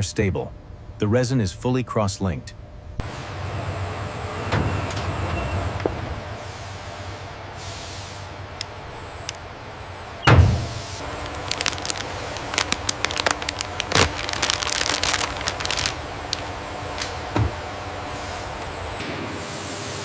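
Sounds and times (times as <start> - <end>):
machinery low hum: 0.0 - 20.0.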